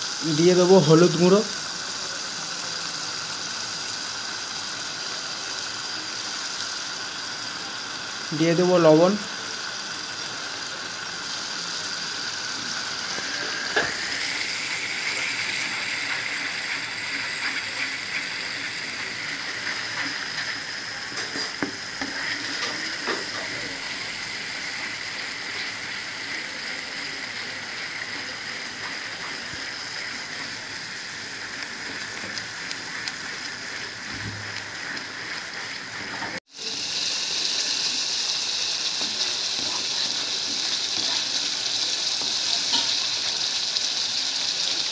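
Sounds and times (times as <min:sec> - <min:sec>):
paste sizzling in hot oil: 0:00.0 - 0:44.9.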